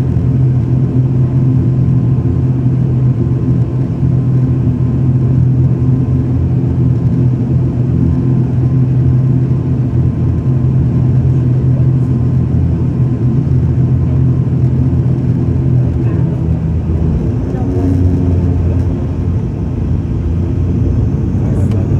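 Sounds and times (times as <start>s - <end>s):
propeller plane engines droning: 0.0s - 21.9s.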